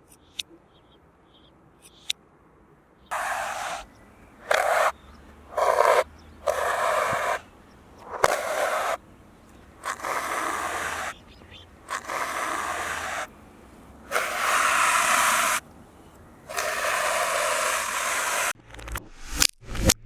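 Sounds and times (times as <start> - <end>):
reversed scraping bursts: 3.1 - 20.0.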